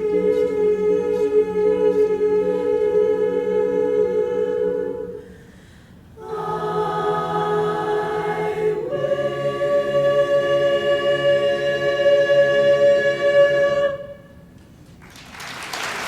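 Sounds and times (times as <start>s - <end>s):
women's chorus singing chords: 0.0s - 5.5s, 6.1s - 14.5s.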